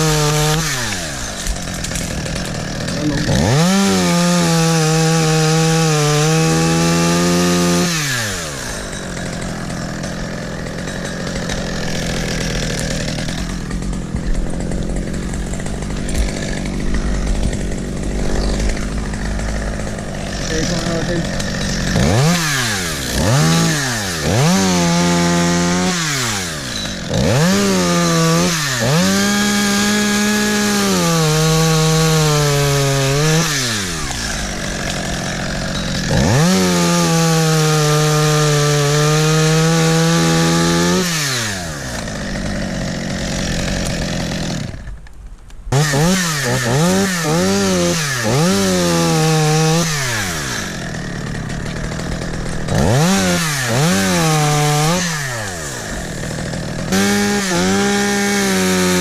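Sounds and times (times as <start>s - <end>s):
chainsaw revving and cutting wood: 0.0s - 59.0s.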